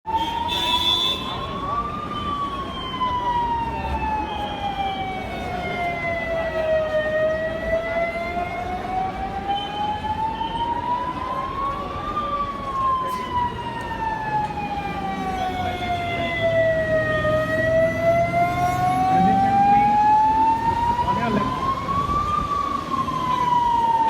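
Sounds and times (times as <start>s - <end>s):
siren wailing: 0.1s - 24.0s.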